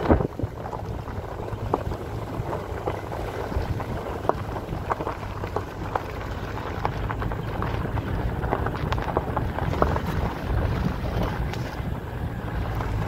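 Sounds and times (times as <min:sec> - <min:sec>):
clicks and knocks from bumps: 0:00.0 - 0:11.9
atv engine rumbling: 0:00.0 - 0:13.0
wind on microphone: 0:00.0 - 0:13.0.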